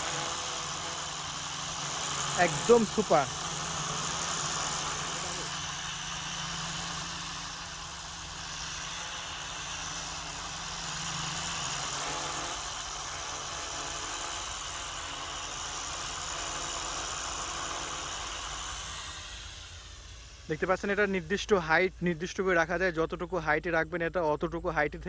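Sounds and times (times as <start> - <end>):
toy drone propellers whirring: 0.0 - 22.2.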